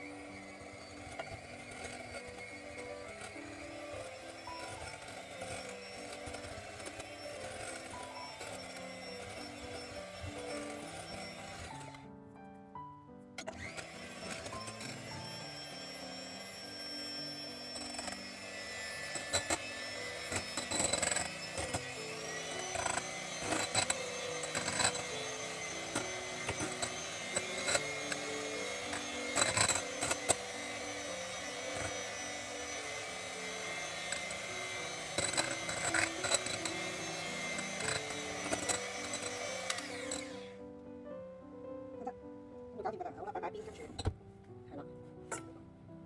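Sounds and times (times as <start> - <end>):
electric hand mixer running: 0.0 - 12.2, 13.4 - 40.8, 43.8 - 44.2.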